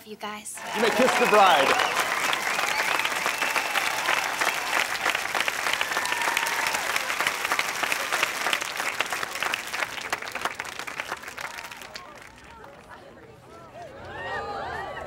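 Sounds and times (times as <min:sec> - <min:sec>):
crowd clapping: 0:00.5 - 0:14.3
crowd cheering: 0:00.5 - 0:15.0.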